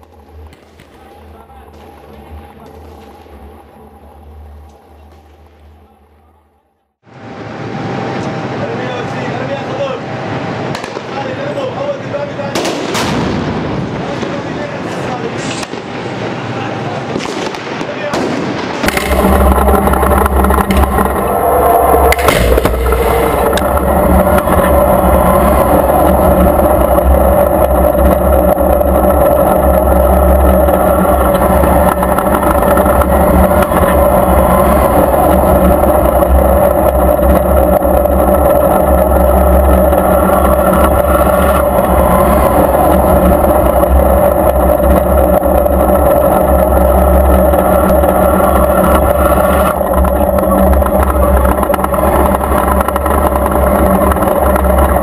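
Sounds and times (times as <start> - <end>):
tank engine deep drone: 0.0 - 55.0.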